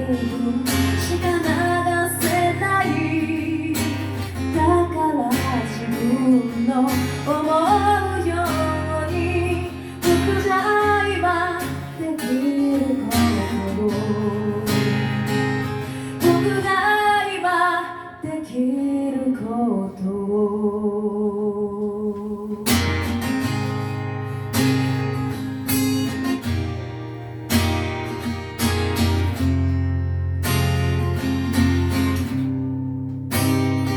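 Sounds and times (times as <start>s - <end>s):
strummed acoustic guitar: 0.0s - 18.6s, 22.5s - 33.9s.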